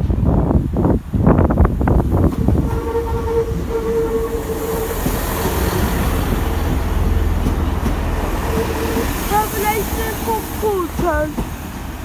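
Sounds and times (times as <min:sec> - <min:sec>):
train rumbling: 0:00.0 - 0:12.0
train whine: 0:00.0 - 0:12.0.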